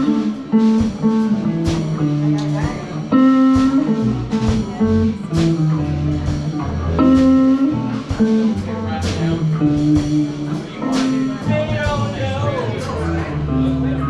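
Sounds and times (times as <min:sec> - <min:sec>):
live blues band playing: 0:00.0 - 0:14.0.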